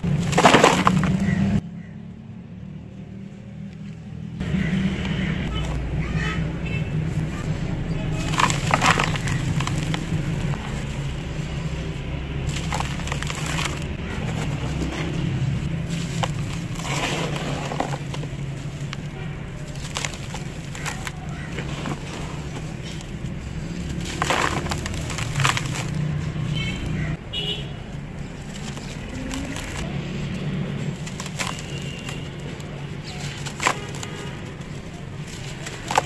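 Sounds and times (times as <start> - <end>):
cement lumps crunching by hand: 0.0 - 1.6, 5.4 - 36.0.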